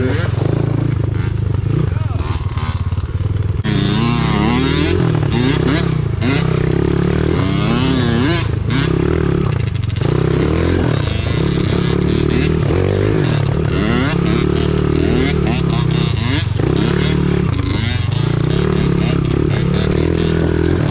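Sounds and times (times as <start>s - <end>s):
pit bike engine revving: 0.0s - 20.9s.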